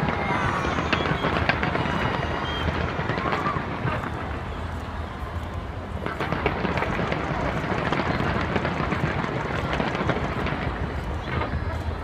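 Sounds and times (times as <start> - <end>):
crowd hubbub: 0.0 - 12.0
fireworks crackling and popping: 0.0 - 12.0.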